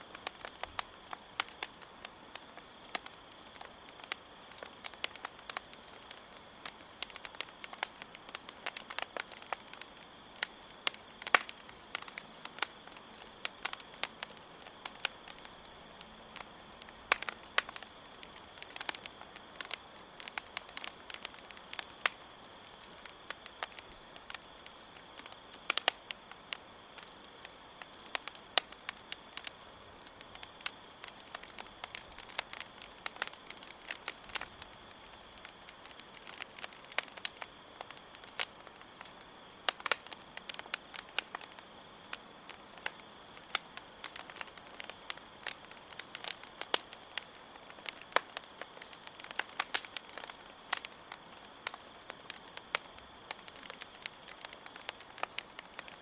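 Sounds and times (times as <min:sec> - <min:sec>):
crickets chirring: 0:00.0 - 0:56.0
wood fire crackling: 0:00.0 - 0:56.0.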